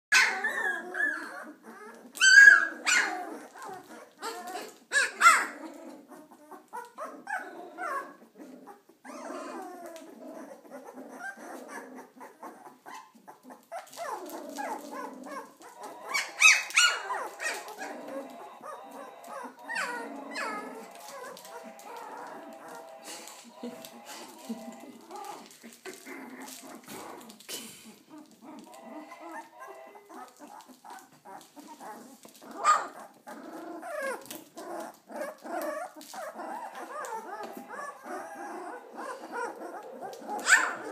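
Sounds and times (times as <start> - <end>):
puppies yapping and squealing: 0.1 - 40.9.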